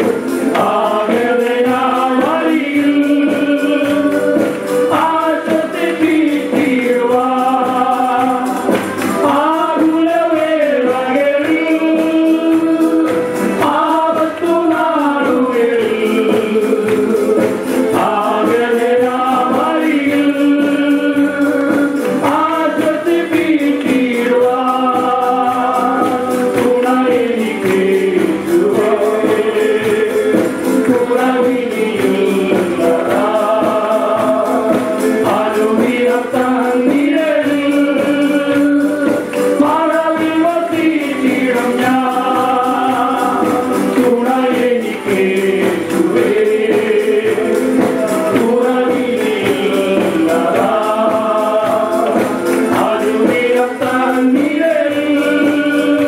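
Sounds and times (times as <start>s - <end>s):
acoustic guitar: 0.0s - 56.0s
keyboard: 0.0s - 56.0s
men singing worship song: 0.0s - 56.0s
percussion beat: 0.0s - 56.0s.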